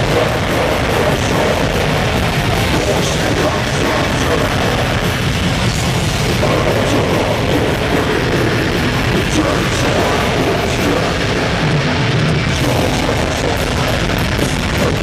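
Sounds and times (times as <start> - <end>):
death metal band playing live: 0.0 - 15.0.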